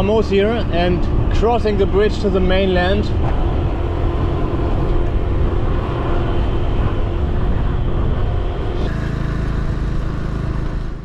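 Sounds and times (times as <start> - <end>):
motorbike engine running: 0.0 - 11.0
wind noise on microphone: 0.0 - 11.0.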